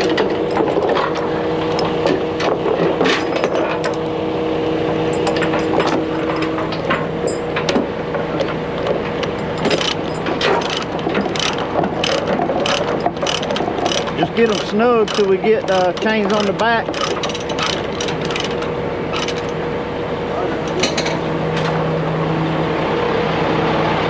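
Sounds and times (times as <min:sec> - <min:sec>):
metal rigging clanking: 0:00.0 - 0:04.2, 0:04.8 - 0:19.7, 0:20.5 - 0:22.5
tow truck engine running: 0:00.0 - 0:24.0.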